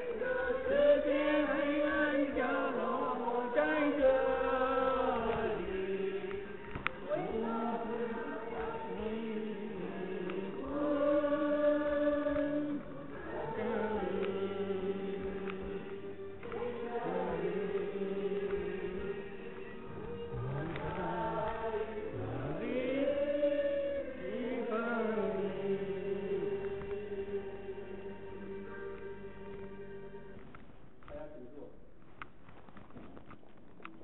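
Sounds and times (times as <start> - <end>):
choir singing long notes: 0.0 - 30.8.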